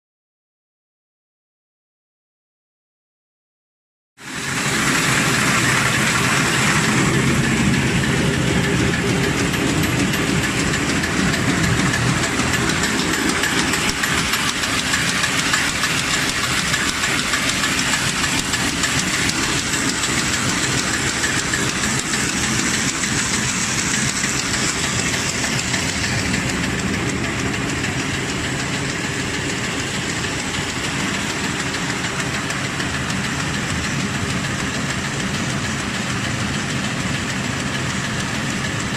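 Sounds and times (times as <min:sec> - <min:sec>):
high machine whine: 0:04.2 - 0:38.9
machine clattering: 0:04.3 - 0:38.9.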